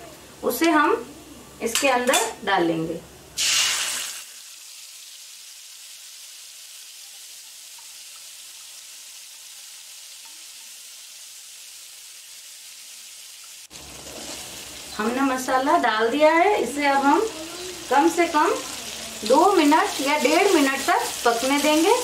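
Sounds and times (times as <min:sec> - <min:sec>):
paste sizzling in hot oil: 0:03.4 - 0:22.0.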